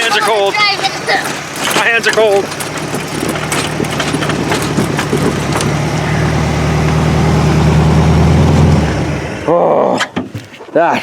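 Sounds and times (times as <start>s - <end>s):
buggy engine running: 0.0s - 10.0s.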